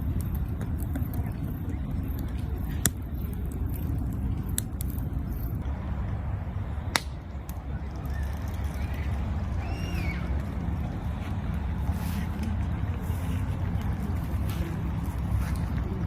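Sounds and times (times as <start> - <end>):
low rumble: 0.0 - 16.0
sharp cracks: 0.0 - 16.0.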